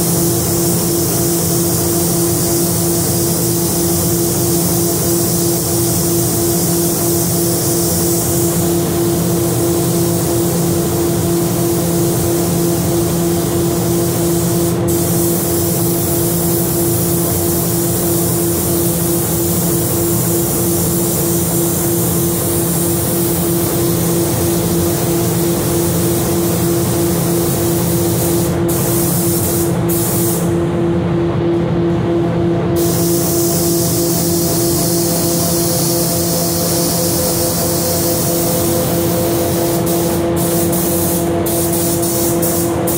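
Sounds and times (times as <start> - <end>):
paint spray gun hissing: 0.0 - 30.5, 32.8 - 42.9.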